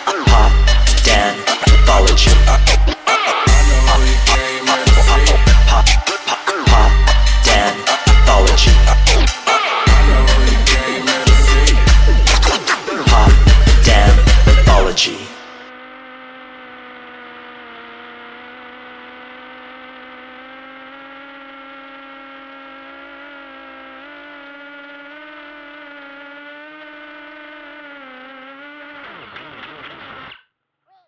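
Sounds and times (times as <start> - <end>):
quadcopter propellers whirring: 0.0 - 30.2.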